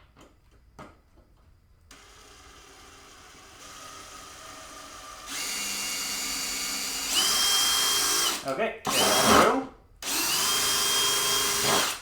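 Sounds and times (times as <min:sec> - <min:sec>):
power drill whining: 0:01.9 - 0:12.0.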